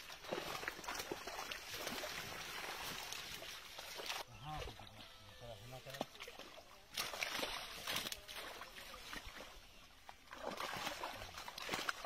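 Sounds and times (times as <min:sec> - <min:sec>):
water sloshing and splashing: 0:00.0 - 0:05.0, 0:05.8 - 0:12.0.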